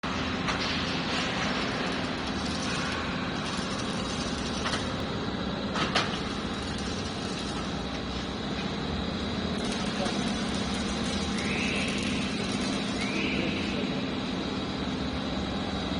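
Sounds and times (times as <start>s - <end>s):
industrial machinery humming: 0.0s - 15.9s.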